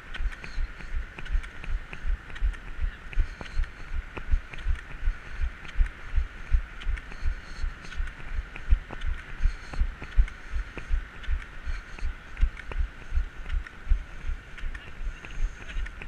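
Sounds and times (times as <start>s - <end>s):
light clicks of crutches: 0.0s - 16.0s.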